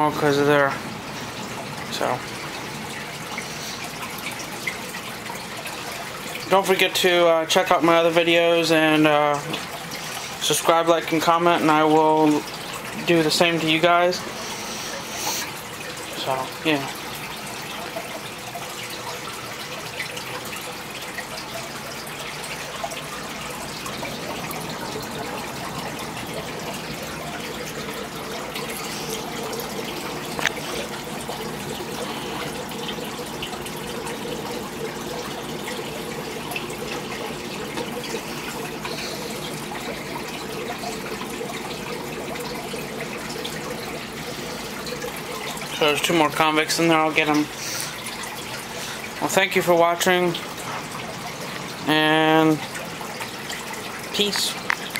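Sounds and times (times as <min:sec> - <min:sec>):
water trickling and bubbling: 0:00.0 - 0:54.9.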